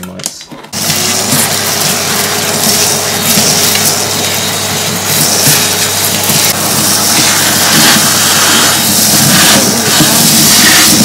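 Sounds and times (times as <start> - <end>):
vacuum cleaner sucking debris: 0.8 - 11.0.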